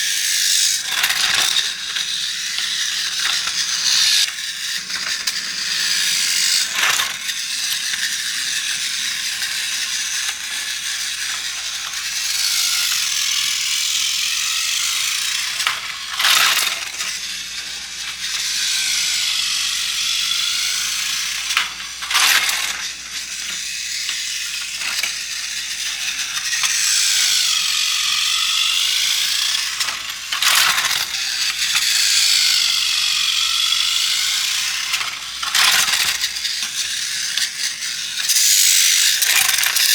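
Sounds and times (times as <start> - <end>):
toy train rattling whir: 0.0 - 39.9.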